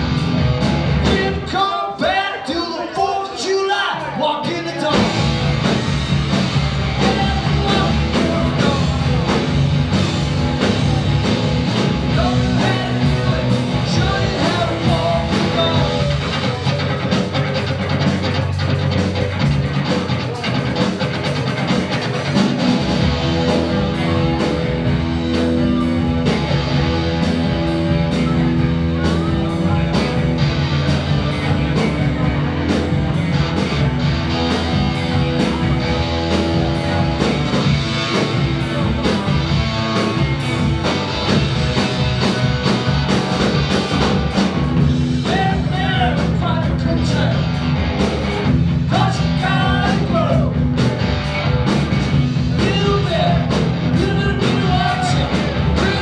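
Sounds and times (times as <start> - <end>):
electric guitars: 0.0 - 1.7, 4.0 - 56.0
drum kit beat: 0.0 - 2.2, 4.0 - 56.0.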